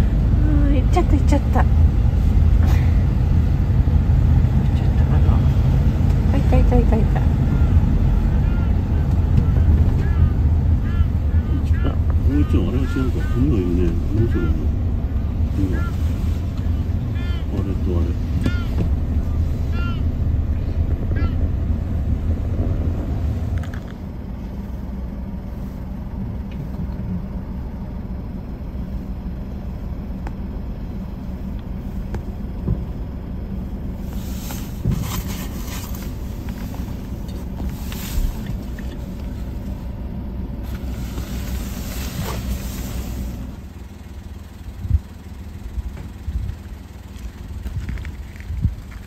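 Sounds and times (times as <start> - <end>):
car engine rumble: 0.0 - 49.0.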